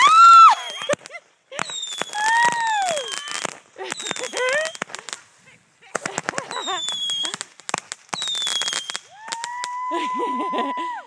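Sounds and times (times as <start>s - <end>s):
firework crackling reports: 0.0s - 10.4s.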